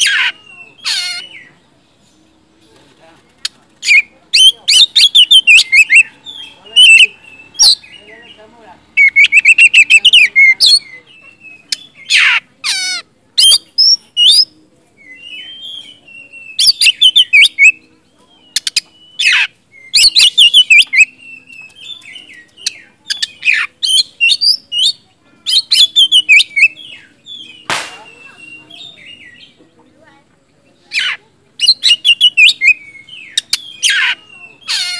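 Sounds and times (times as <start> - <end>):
bird singing trills and whistles: 0.0 - 2.2, 3.8 - 8.4, 9.0 - 29.6, 30.8 - 34.9.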